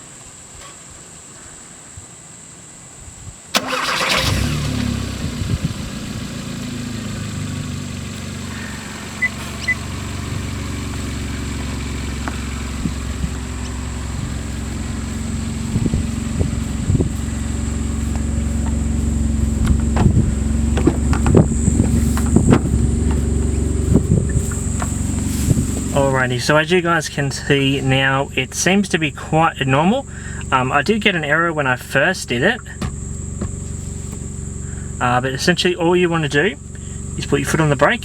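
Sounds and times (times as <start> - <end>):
car engine idling: 3.5 - 38.0
car starter cranking: 3.5 - 38.0.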